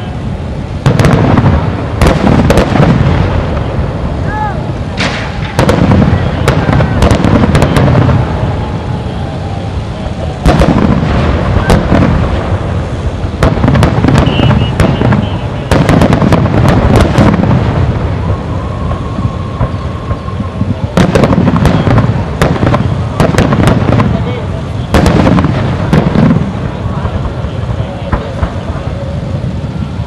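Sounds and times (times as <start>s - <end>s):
fireworks deep booms: 0.0s - 30.0s
fireworks sharp cracks and crackling: 0.0s - 30.0s.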